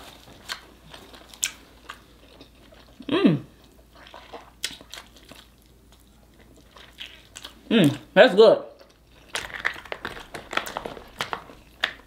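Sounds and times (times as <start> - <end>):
person chewing: 0.0 - 8.1, 8.8 - 12.0.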